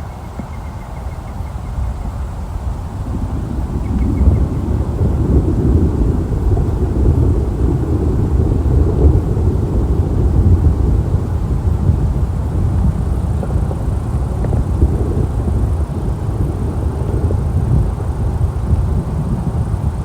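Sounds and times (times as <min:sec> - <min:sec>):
thunder rumbling: 0:01.3 - 0:20.0.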